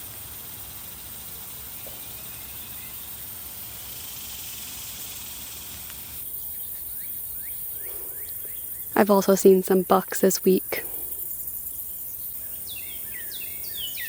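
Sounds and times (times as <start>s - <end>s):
high insect drone: 0.0s - 14.0s
steady outdoor hiss: 0.0s - 14.0s.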